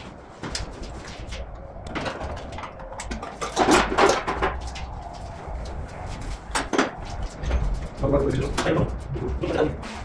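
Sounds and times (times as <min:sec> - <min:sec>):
car parts clattering and rustling: 0:00.0 - 0:10.0.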